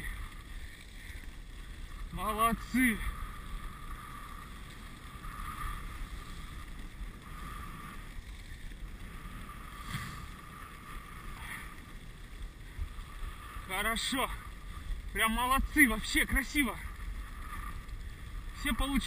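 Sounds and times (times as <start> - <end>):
sled runners gliding over snow: 0.0 - 19.0.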